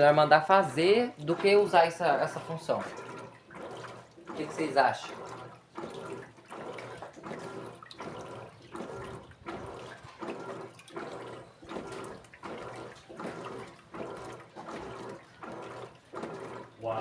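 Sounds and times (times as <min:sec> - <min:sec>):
washing machine swishing water: 0:00.0 - 0:17.0.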